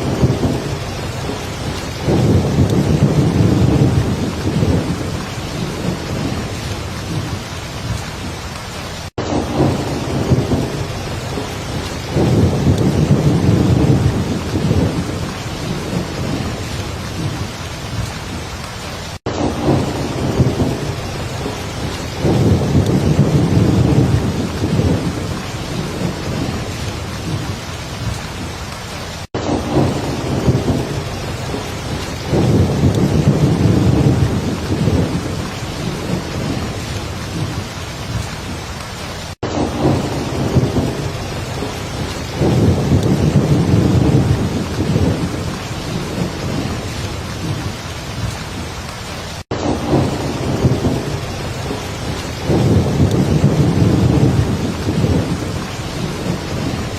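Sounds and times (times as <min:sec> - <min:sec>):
rolling thunder: 0:00.0 - 0:18.4, 0:19.2 - 0:28.5, 0:29.3 - 0:38.6, 0:39.4 - 0:48.8, 0:49.5 - 0:56.9
heavy rain falling: 0:00.0 - 0:56.9.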